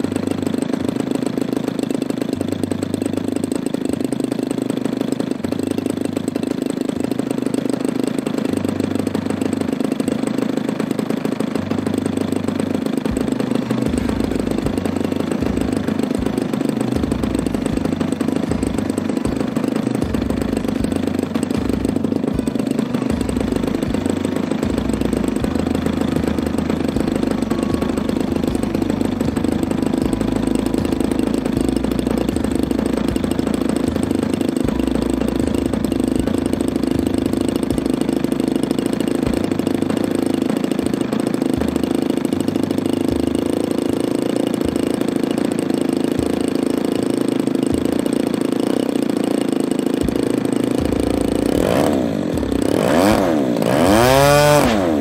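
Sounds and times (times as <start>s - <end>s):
engine revving: 0.0s - 55.0s
small gasoline engine idling: 0.0s - 55.0s.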